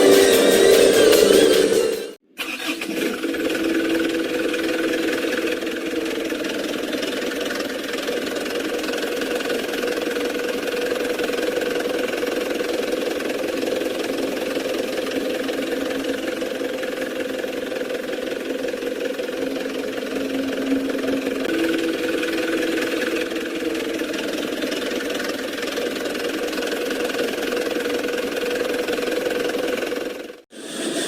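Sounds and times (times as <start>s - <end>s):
model truck motor whine: 2.6s - 31.0s.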